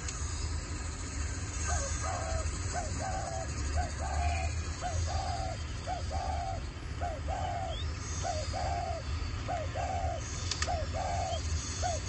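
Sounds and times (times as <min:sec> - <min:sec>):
dove cooing: 0:01.6 - 0:12.0.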